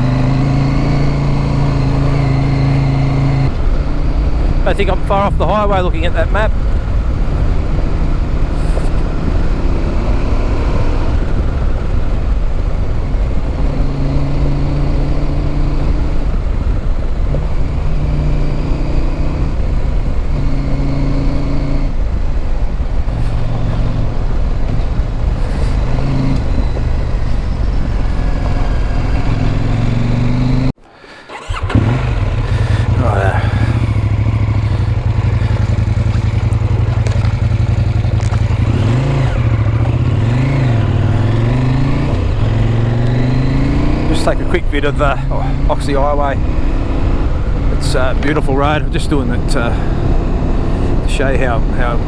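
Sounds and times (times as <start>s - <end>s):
motorcycle engine shifting gears: 0.0s - 52.0s
wind noise rumble: 0.0s - 52.0s.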